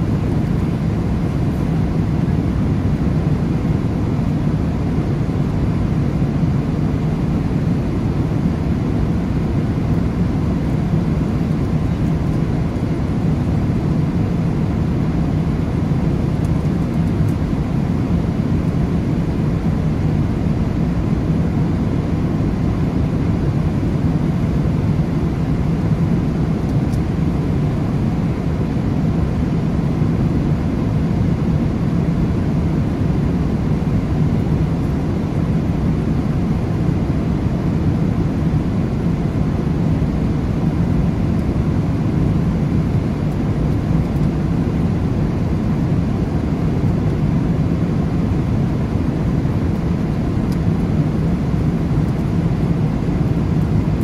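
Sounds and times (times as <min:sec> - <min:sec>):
airliner cabin engine noise: 0:00.0 - 0:54.0.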